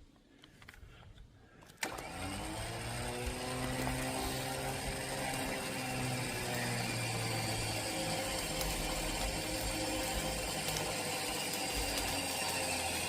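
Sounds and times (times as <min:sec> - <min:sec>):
winch motor humming: 0:01.8 - 0:13.0.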